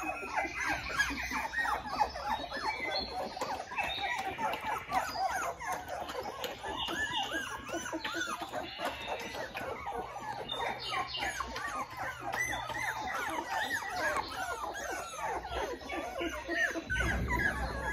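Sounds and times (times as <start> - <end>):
puppies squeaking and whining: 0.0 - 17.9.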